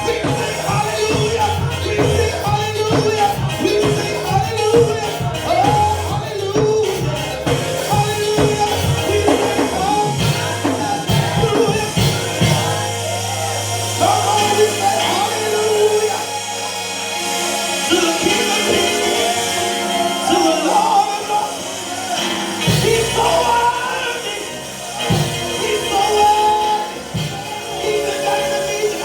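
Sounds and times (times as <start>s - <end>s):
gospel band with singing: 0.0s - 29.0s.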